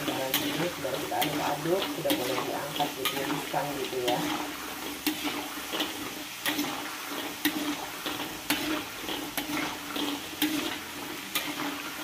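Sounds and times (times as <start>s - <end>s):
potatoes deep-frying in oil: 0.0s - 12.0s
utensil scraping a wok: 0.0s - 12.0s.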